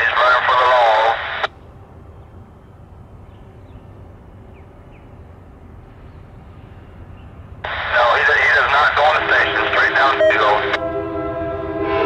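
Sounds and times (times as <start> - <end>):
low outdoor rumble: 0.0 - 11.9.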